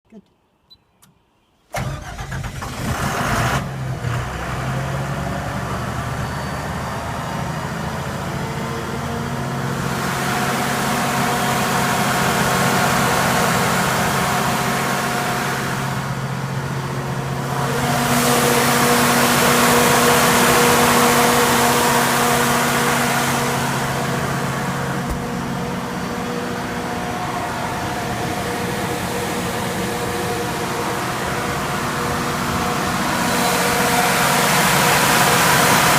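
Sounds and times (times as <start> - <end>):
diesel generator running: 1.7 - 35.9.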